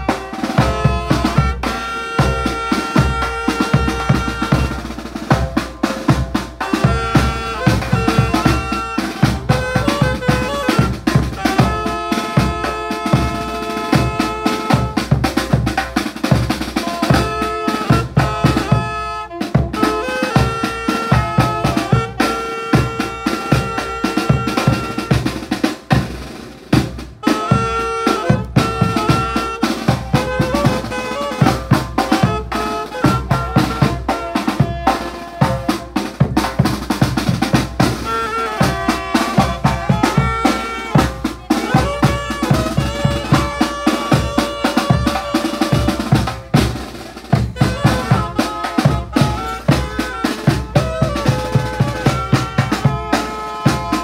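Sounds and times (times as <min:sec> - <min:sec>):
bass drum beat: 0:00.0 - 0:54.0
marching band playing: 0:00.0 - 0:54.0
saxophones playing melody: 0:00.0 - 0:54.0.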